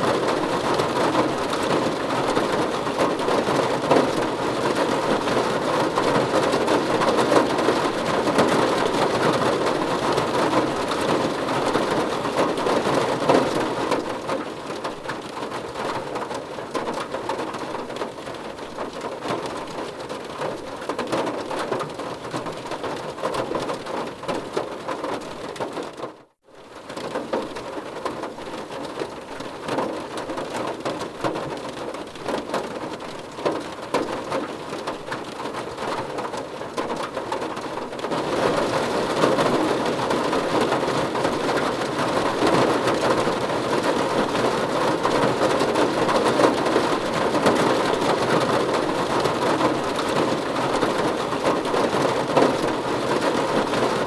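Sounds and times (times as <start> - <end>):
heavy rain falling: 0.0 - 25.9, 26.6 - 54.0.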